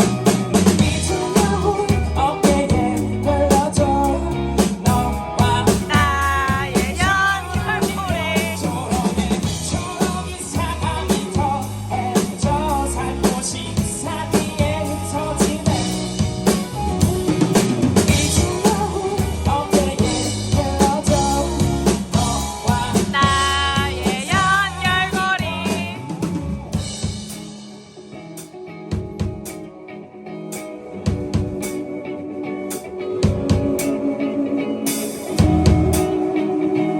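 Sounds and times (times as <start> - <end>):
person singing with band: 0.0 - 27.1, 32.7 - 36.9
guitar playing: 0.0 - 36.9.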